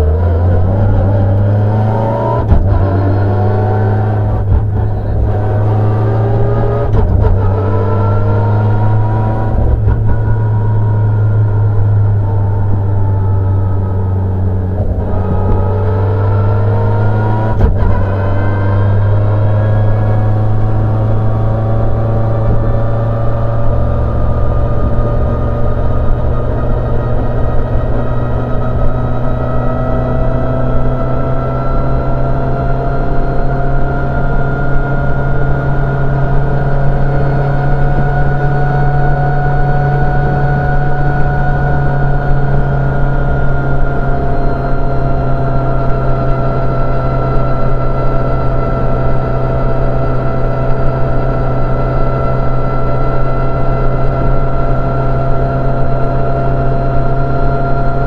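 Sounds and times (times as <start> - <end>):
car engine drone from cabin: 0.0 - 58.0.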